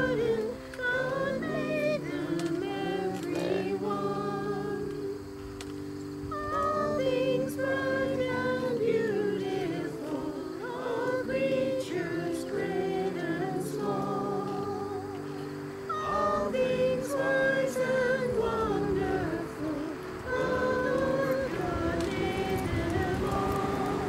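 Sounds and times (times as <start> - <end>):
held accompanying chords: 0.0 - 24.0
voices singing a hymn: 0.0 - 24.0.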